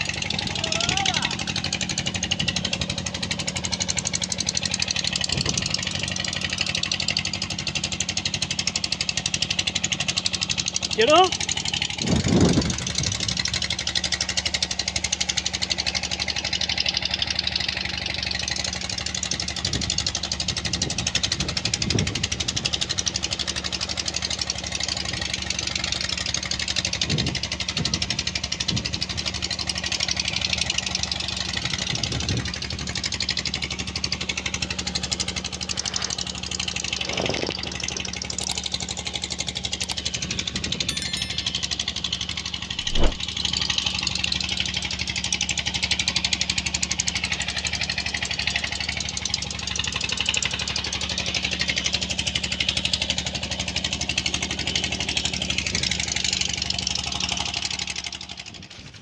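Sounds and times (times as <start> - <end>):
engine running with hiss: 0.0 - 59.0.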